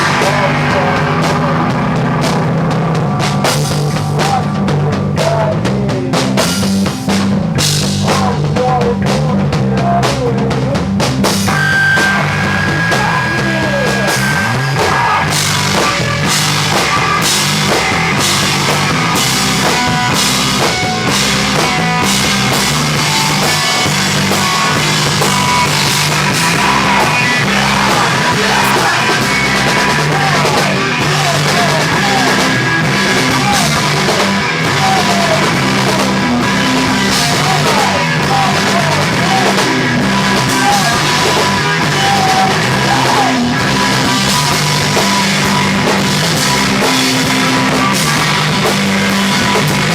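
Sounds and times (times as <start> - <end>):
bass line: 0.0 - 49.9
drum kit: 0.0 - 49.9
live rock band playing: 0.0 - 49.9.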